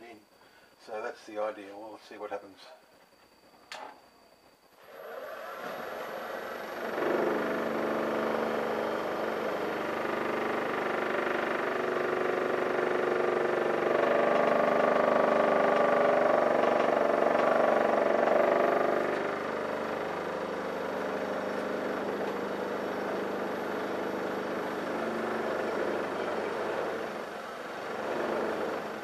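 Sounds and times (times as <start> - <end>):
wood lathe running: 4.9 - 29.0.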